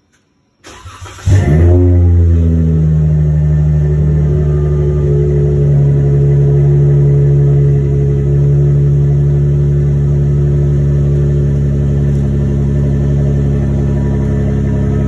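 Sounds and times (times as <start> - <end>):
car engine idling: 0.7 - 15.0.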